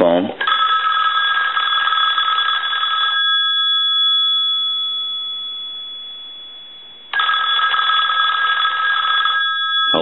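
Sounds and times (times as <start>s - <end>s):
telephone bell ringing: 0.4s - 10.0s.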